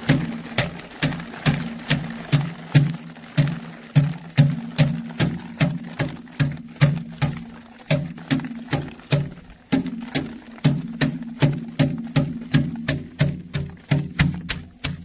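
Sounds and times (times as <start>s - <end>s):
grain heads beaten by hand: 0.0s - 15.0s.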